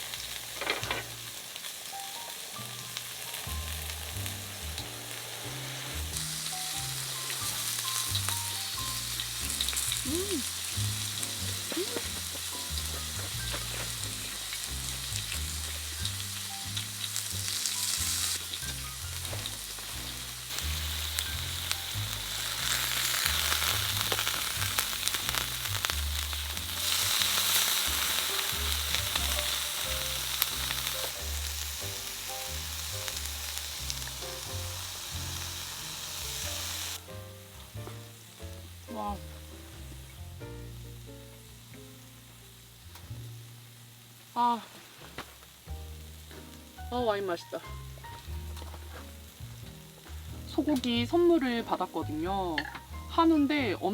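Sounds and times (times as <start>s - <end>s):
meat sizzling in a pan: 0.0s - 53.9s
pan crackles: 0.0s - 53.9s.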